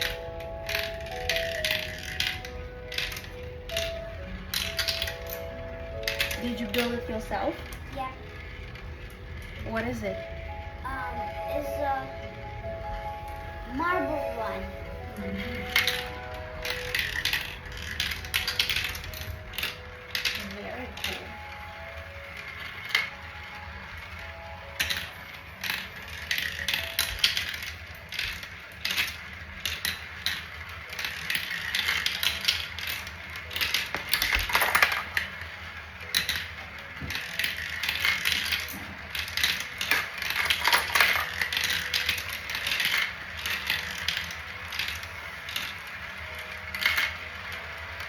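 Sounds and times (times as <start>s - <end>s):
marbles rolling and clicking: 0.0s - 48.0s.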